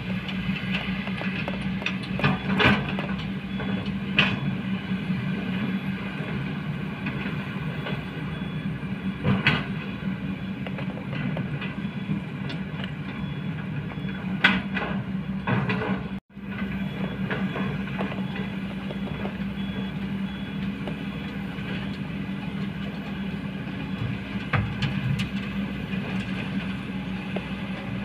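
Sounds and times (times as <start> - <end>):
excavator diesel engines running: 0.0 - 28.0.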